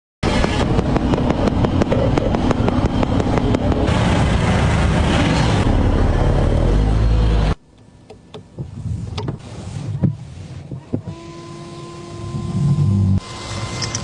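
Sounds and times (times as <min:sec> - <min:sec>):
motor vehicle noise: 0:00.2 - 0:14.0.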